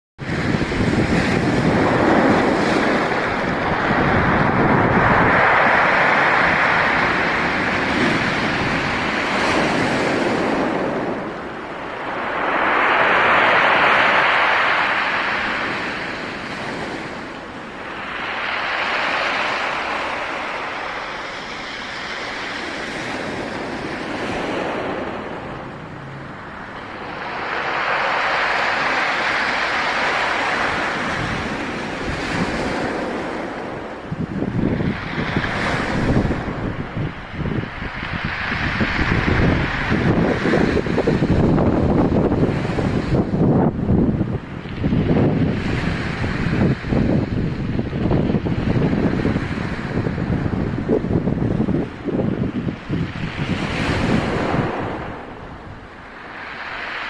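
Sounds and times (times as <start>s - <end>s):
waves breaking on shore: 0.2s - 57.0s
wind buffeting microphone: 0.2s - 57.0s.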